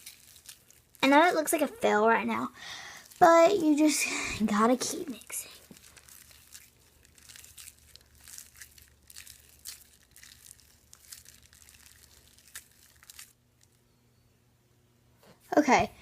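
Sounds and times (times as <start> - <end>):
slime squishing and crackling: 0.0 - 13.8.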